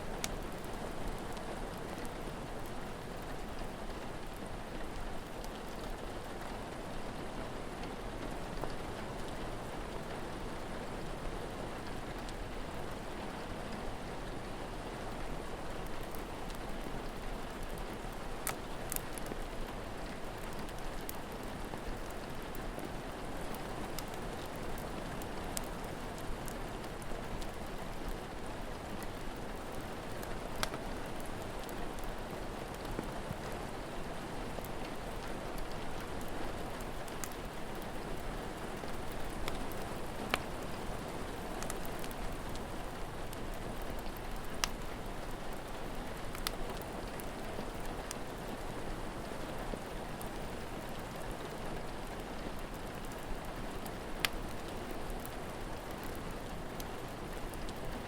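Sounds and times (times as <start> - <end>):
steady rain falling: 0.0 - 58.0
wood fire crackling: 0.0 - 58.0.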